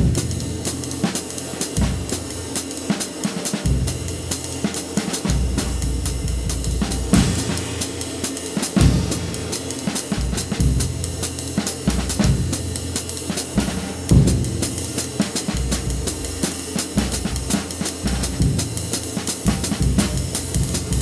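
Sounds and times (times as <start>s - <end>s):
bass drum: 0.0s - 0.8s, 3.7s - 4.6s, 5.2s - 21.0s
ride cymbal: 0.0s - 21.0s
snare drum: 0.0s - 21.0s.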